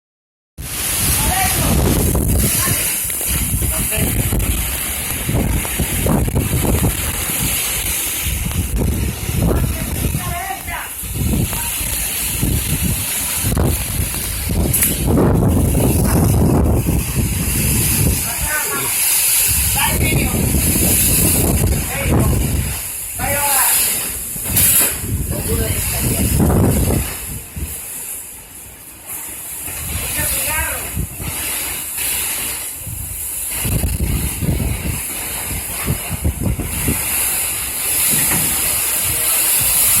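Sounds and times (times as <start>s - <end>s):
strong wind buffeting microphone: 0.6s - 28.4s, 29.0s - 40.0s
high hiss of storm: 0.6s - 40.0s.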